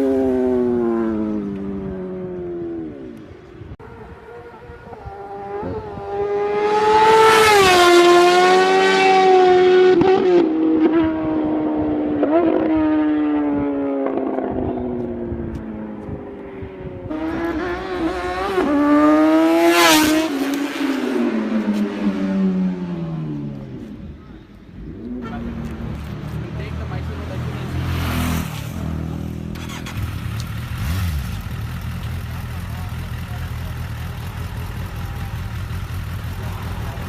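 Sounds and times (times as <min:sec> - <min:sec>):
motorbikes passing at high revs: 0:00.0 - 0:03.2, 0:03.8 - 0:37.0.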